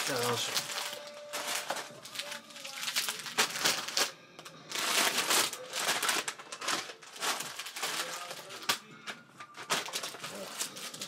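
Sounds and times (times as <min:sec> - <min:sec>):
plastic snack packets crinkling: 0:00.0 - 0:11.0.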